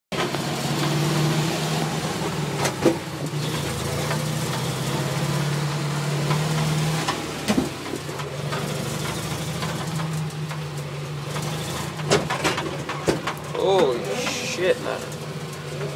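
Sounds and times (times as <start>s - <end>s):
small vehicle engine running: 0.1s - 15.9s.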